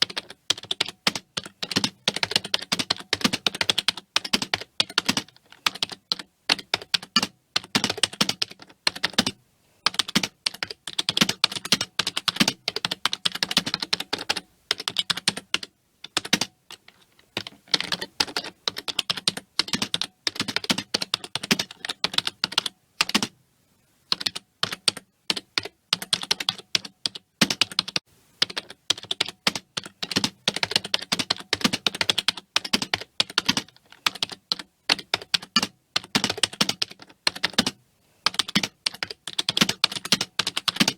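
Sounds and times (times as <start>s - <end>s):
typing on computer keyboard: 0.0s - 23.3s, 24.1s - 40.9s.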